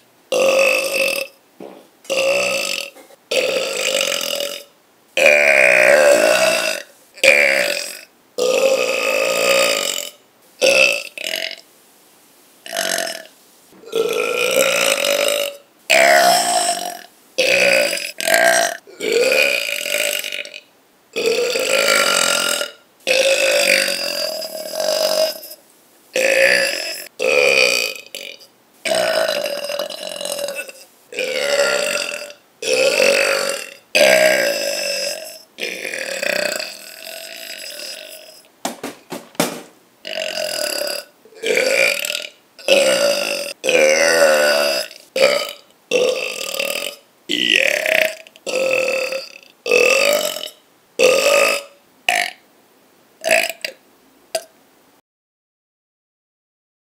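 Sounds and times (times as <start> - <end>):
person burping: 0.3 - 11.6, 12.7 - 20.6, 21.2 - 25.6, 26.2 - 38.5, 40.0 - 52.4, 53.2 - 53.8.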